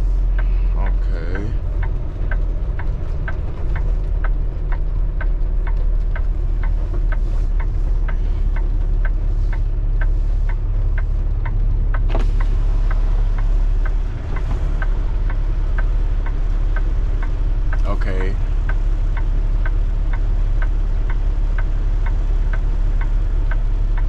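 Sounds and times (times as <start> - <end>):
truck engine running: 0.0 - 24.0
turn signal clicking: 0.0 - 24.0.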